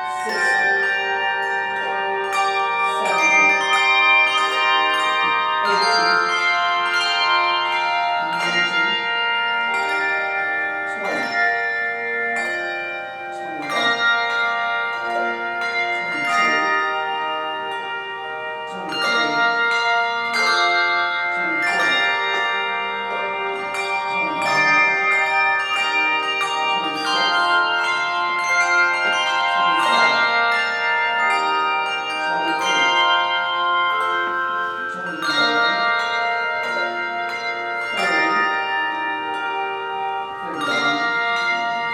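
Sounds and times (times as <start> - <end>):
handbell choir playing: 0.0 - 41.9.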